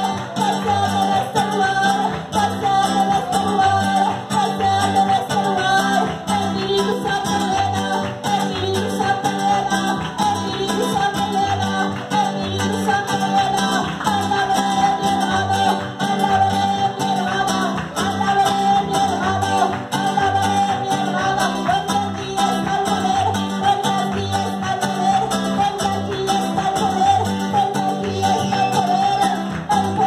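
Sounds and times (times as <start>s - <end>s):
guitar and bass with beat: 0.0s - 30.0s
person singing: 0.0s - 30.0s.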